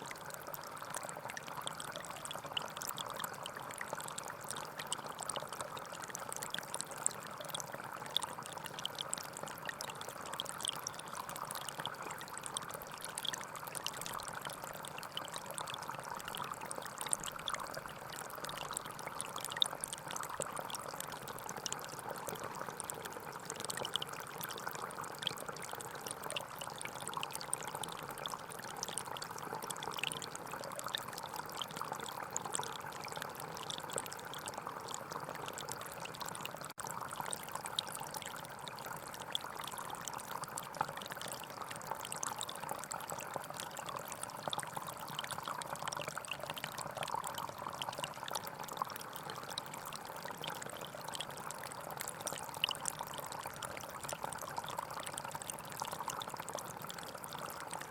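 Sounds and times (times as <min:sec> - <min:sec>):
stream flowing over stones: 0:00.0 - 0:57.9.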